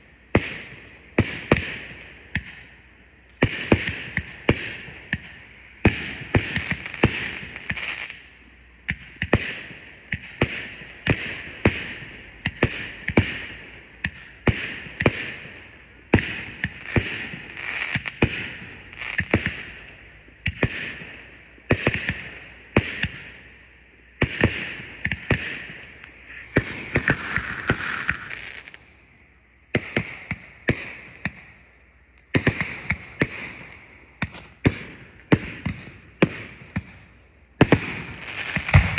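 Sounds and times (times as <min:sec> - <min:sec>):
fireworks bangs with hiss: 0:00.0 - 0:02.8, 0:03.4 - 0:08.2, 0:08.9 - 0:23.6, 0:24.2 - 0:29.1, 0:29.7 - 0:31.6, 0:32.3 - 0:38.9.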